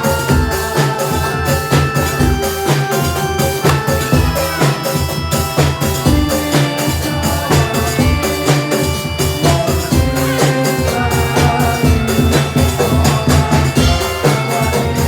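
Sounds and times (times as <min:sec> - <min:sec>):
drums beating steady rhythm: 0:00.0 - 0:15.0
held melodic tones: 0:00.0 - 0:15.0.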